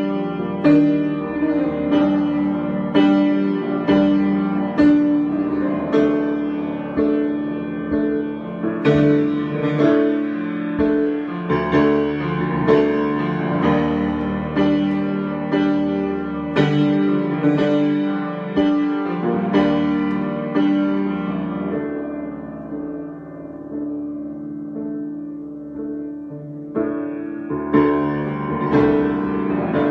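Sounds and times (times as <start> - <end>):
slow solo piano: 0.0 - 29.9.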